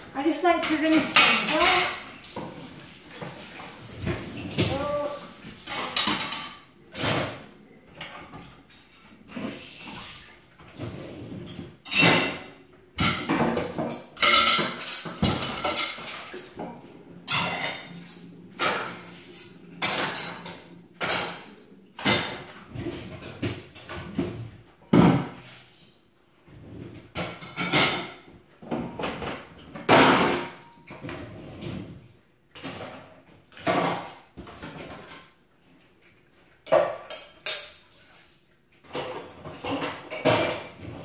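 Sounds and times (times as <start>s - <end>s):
dishes and cutlery clattering: 0.4s - 25.6s, 26.8s - 31.9s, 32.5s - 35.4s, 36.0s - 41.0s.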